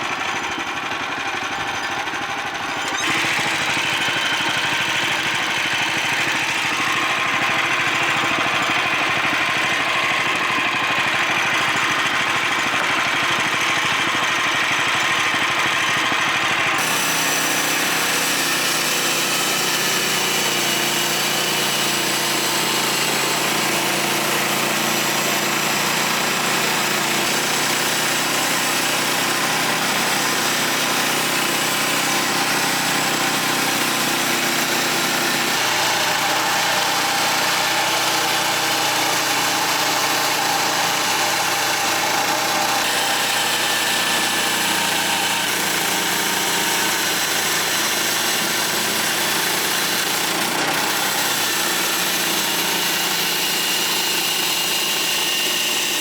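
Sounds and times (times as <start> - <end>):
sawmill gas engine running: 0.0 - 56.0.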